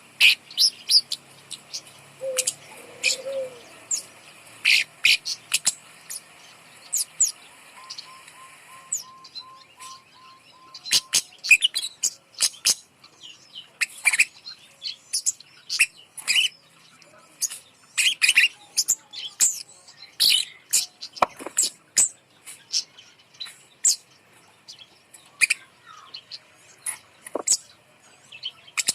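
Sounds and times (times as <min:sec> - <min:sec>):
bird calling with high thin chips: 0:00.2 - 0:28.9.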